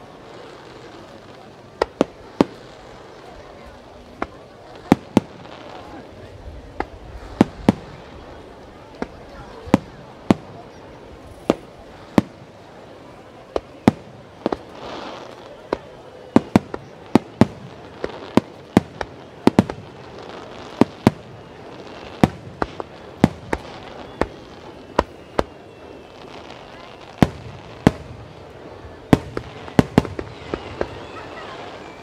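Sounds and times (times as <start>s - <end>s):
fireworks hissing: 0.0s - 32.0s.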